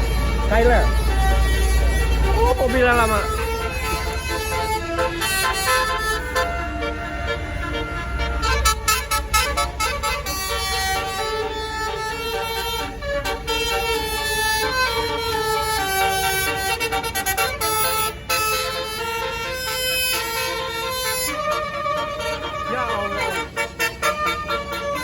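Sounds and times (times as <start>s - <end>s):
bus engine rumble: 0.0s - 25.0s
bus horn playing a melody: 0.0s - 25.0s.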